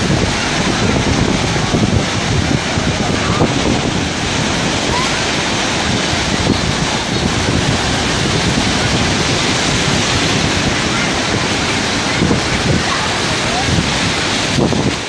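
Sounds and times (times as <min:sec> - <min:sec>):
rough sea surf rushing: 0:00.0 - 0:15.0
wind on microphone: 0:00.0 - 0:15.0.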